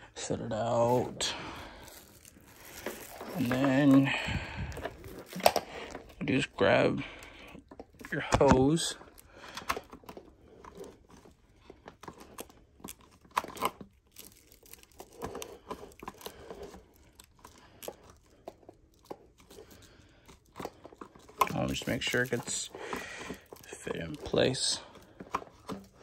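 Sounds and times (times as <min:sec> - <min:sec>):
handling clicks and knocks: 0:00.6 - 0:06.6, 0:07.2 - 0:26.0
packaging crinkling and tearing: 0:00.6 - 0:06.6, 0:07.2 - 0:26.0.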